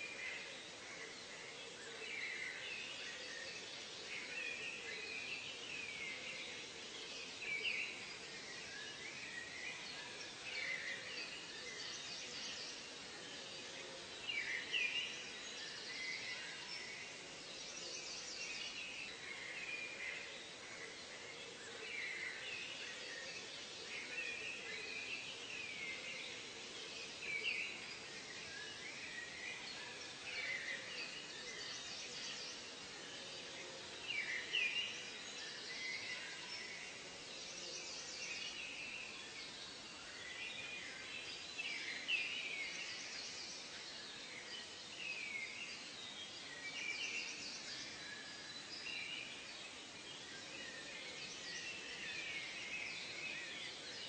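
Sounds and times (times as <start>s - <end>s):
birds chirping and warbling: 0.0s - 54.0s
steady background hiss: 0.0s - 54.0s.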